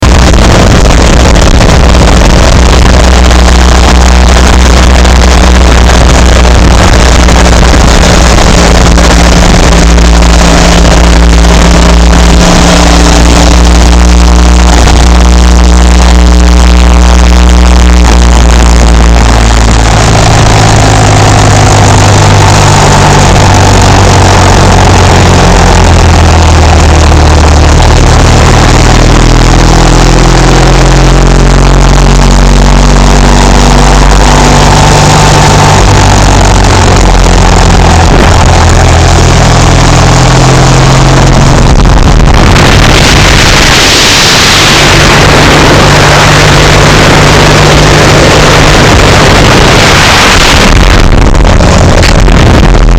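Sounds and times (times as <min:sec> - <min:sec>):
motorcycle engine revving: 0:00.0 - 0:52.9
wind rush on microphone: 0:00.0 - 0:52.9.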